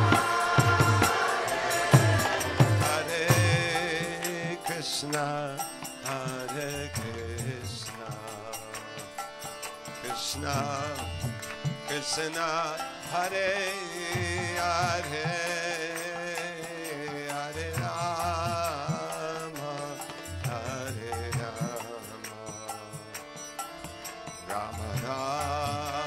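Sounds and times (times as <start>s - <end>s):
person singing with vibrato: 0.0s - 26.0s.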